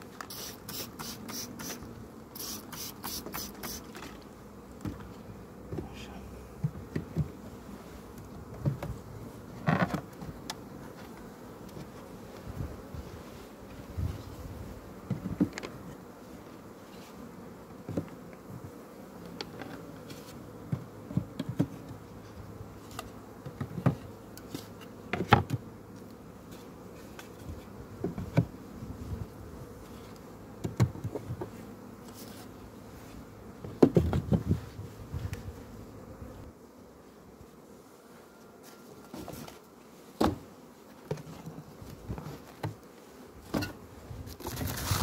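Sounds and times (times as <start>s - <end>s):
honeybees buzzing: 0.0s - 45.0s.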